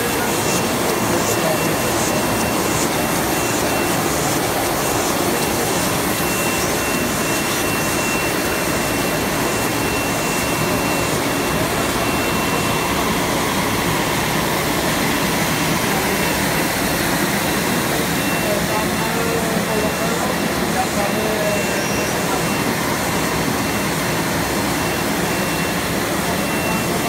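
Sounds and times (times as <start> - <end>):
machine whirring with high whine: 0.0 - 27.0.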